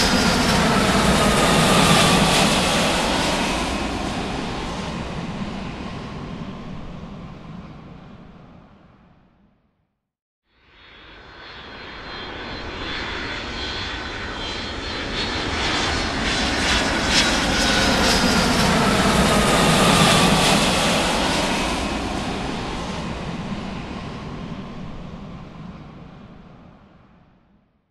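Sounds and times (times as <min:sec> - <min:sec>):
airplane flying overhead: 0:00.0 - 0:09.6, 0:10.5 - 0:27.8.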